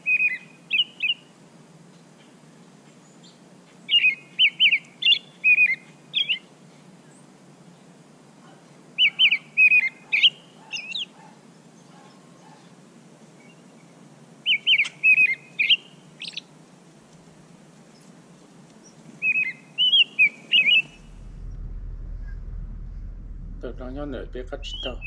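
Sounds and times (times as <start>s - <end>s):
songbird chirping: 0.0s - 1.3s, 1.9s - 21.6s, 24.1s - 25.0s.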